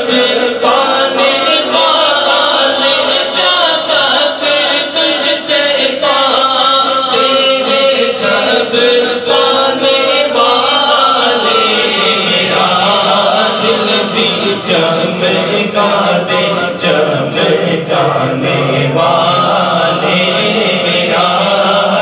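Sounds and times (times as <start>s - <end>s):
men chanting devotional poetry: 0.0s - 22.0s.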